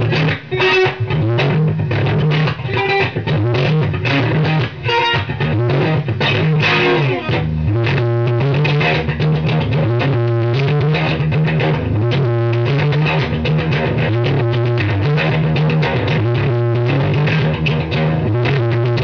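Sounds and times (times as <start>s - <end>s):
electric guitar riff: 0.0s - 19.0s.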